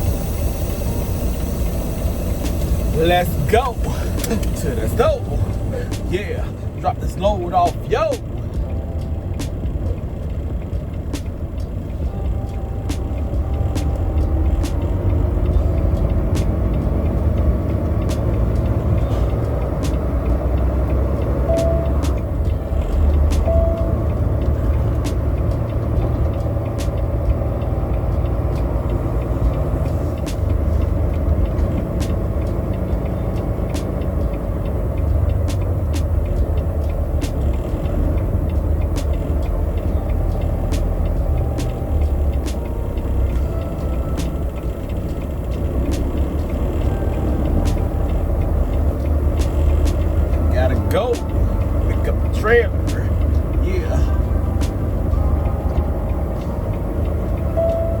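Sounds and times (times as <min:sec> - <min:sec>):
road noise: 0:00.0 - 0:58.0
truck engine rumble: 0:00.0 - 0:58.0.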